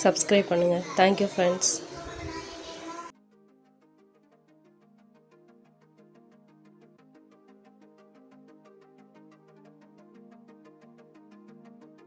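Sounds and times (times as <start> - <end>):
faint synthesizer music: 0.0 - 12.0.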